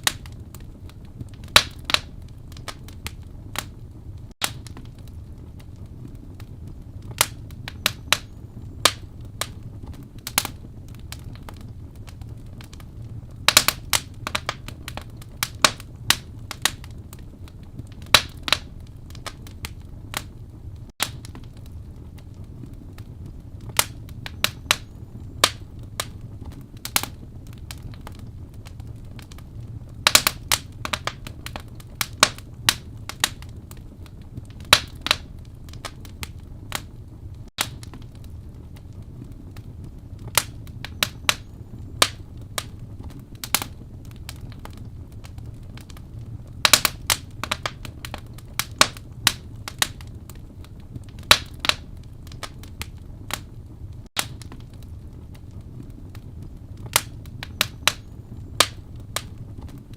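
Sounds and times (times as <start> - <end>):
fire popping and snapping: 0.0 - 59.9
low rumble of flames: 0.0 - 59.9.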